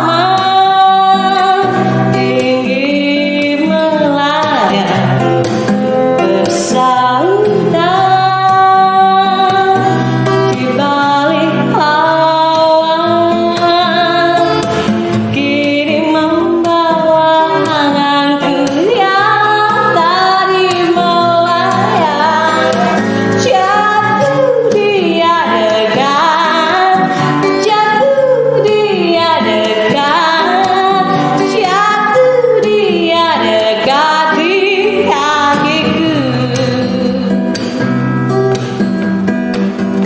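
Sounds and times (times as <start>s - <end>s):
woman singing slow melody: 0.0s - 5.4s, 6.2s - 37.9s
instrumental backing: 0.0s - 40.0s.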